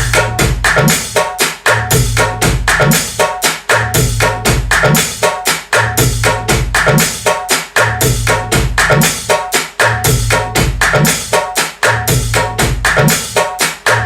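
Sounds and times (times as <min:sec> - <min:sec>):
music with busy drums and bass: 0:00.0 - 0:14.0.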